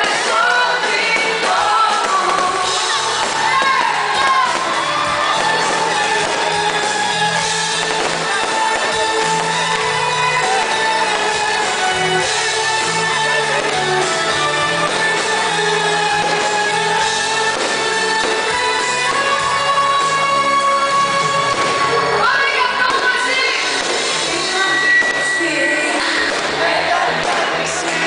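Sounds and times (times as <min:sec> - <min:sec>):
live band playing pop music: 0:00.0 - 0:28.0
person singing: 0:00.0 - 0:28.0.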